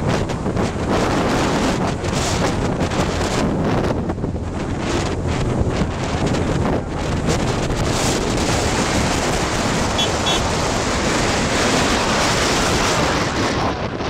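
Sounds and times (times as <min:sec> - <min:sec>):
motorcycle engine running: 0:00.0 - 0:11.5
wind rushing over microphone: 0:00.0 - 0:14.0.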